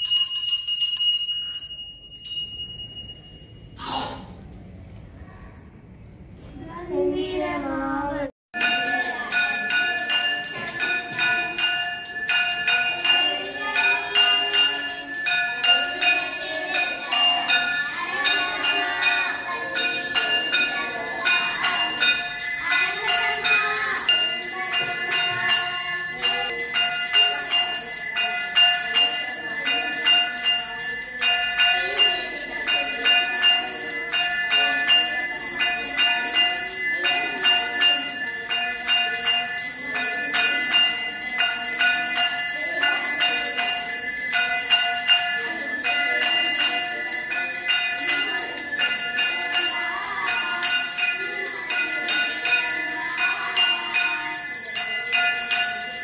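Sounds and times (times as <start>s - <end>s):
hand bell ringing rapidly: 0.0s - 3.7s, 8.6s - 56.0s.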